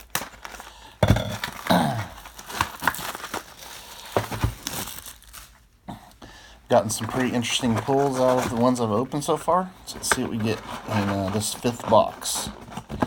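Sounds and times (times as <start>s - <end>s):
plastic and cardboard crinkling: 0.0s - 5.7s, 6.7s - 13.0s.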